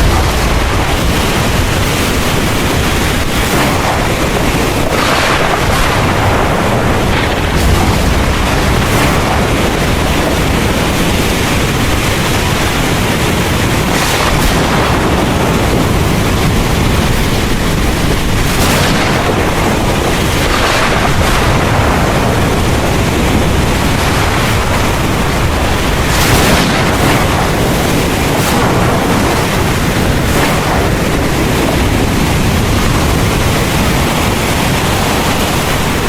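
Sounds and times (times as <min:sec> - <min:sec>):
heavy rain pouring: 0:00.0 - 0:36.0
low rumble of thunder: 0:00.0 - 0:36.0.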